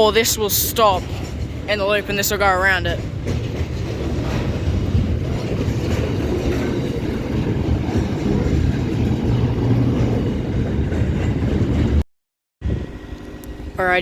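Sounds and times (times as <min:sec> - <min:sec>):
train rumbling on tracks: 0:00.0 - 0:12.0, 0:12.6 - 0:14.0.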